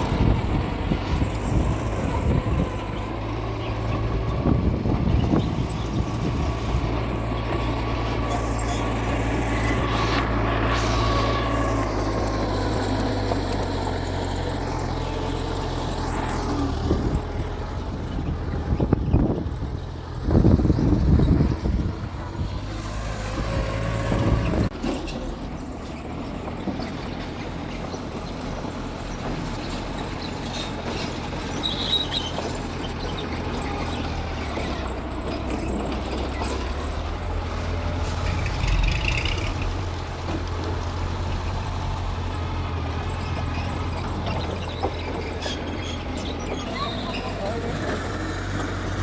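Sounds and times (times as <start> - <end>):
bulldozer diesel engine running: 0.0 - 49.0.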